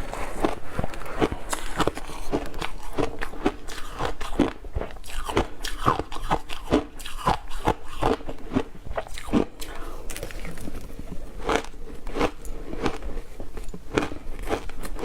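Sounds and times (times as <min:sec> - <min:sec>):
ice crunching being chewed: 0:00.0 - 0:15.0.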